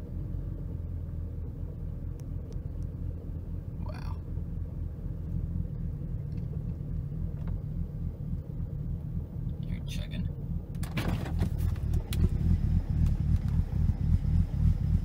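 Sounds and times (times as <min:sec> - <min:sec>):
car engine idling rough: 0:00.0 - 0:15.0.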